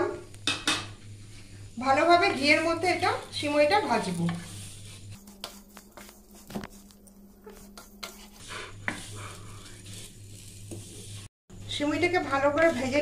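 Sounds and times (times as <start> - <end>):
spatula stirring in a pan: 1.0 - 13.0.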